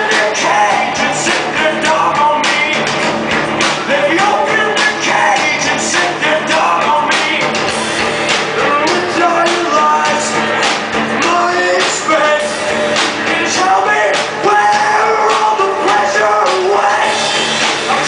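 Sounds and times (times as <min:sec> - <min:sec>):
lead vocal singing: 0:00.0 - 0:18.0
rock band playing live: 0:00.0 - 0:18.0.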